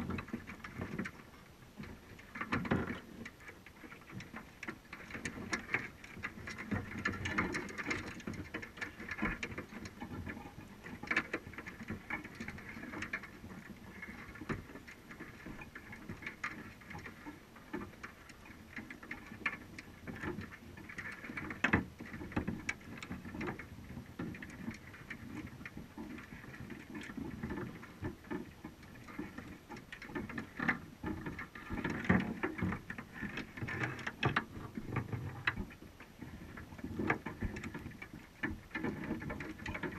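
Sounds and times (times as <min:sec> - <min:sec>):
crabs clicking on wire mesh underwater: 0:00.0 - 0:39.9.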